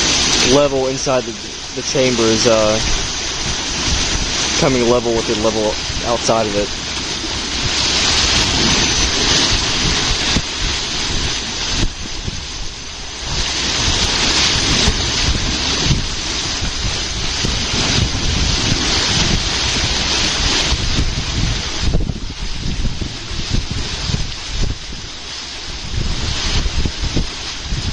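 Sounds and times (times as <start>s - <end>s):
water rushing in lock chamber: 0.0s - 27.9s
wind buffeting microphone: 0.0s - 27.9s.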